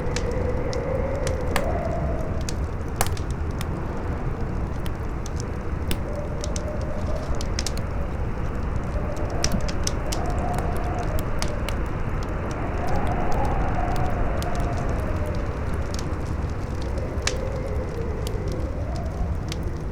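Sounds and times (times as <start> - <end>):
campfire crackling and popping: 0.0 - 19.9
faint wind howl: 0.0 - 19.9
strong wind rumbling: 0.0 - 19.9.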